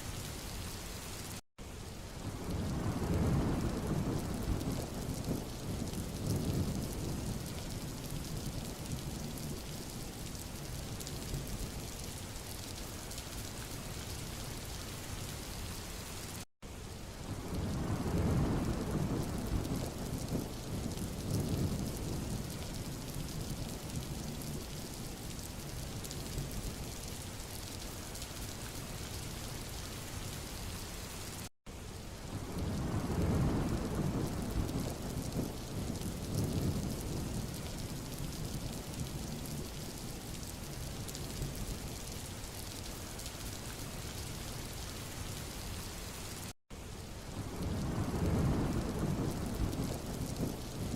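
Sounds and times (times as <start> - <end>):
rain falling on road: 0.0 - 50.9
wind through trees: 0.0 - 50.9.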